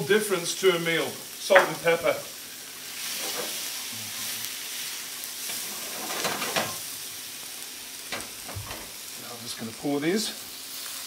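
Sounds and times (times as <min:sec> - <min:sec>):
prawns sizzling in a skillet: 0:00.0 - 0:11.0.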